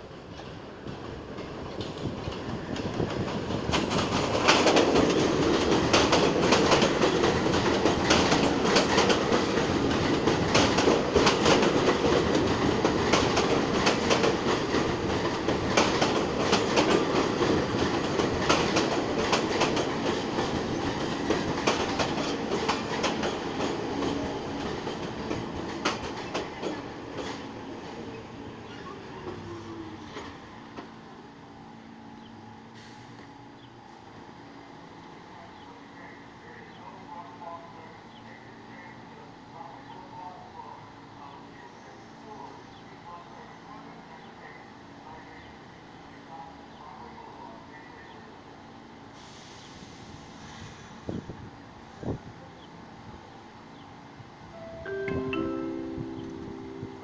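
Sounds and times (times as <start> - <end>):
subway train rumble: 0.0 - 57.0.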